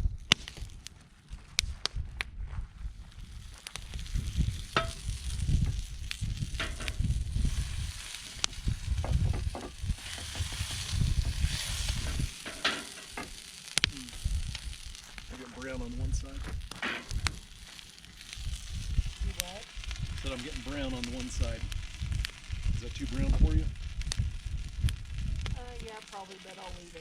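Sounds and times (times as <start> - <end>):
sharp clicks and pops: 0.0 - 2.3, 3.0 - 27.0
campfire coals crackling and sizzling: 0.0 - 27.0
low uneven rumble: 0.0 - 27.0.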